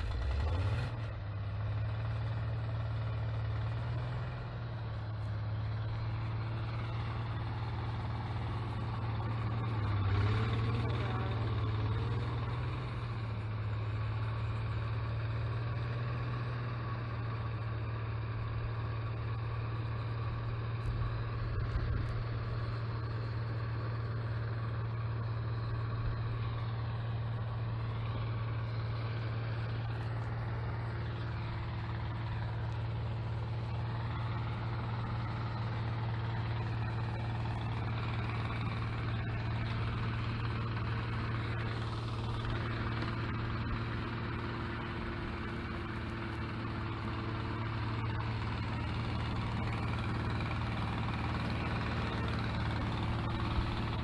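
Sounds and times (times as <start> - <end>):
snowblower engine drone: 0.0 - 54.0.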